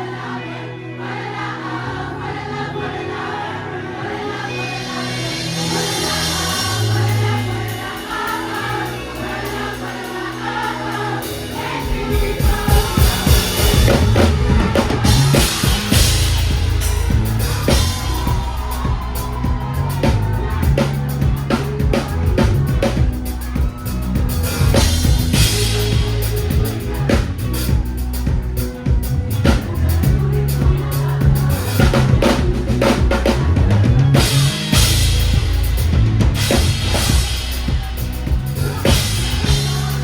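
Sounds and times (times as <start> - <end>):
voices singing together: 0.0 - 40.0
drum kit beat: 5.4 - 40.0.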